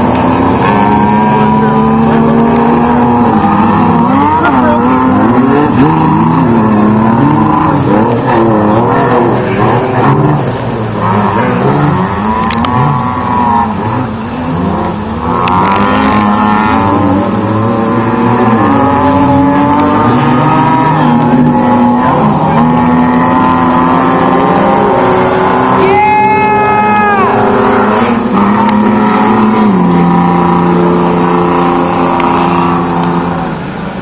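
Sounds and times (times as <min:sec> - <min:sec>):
engines revving hard: 0:00.0 - 0:34.0.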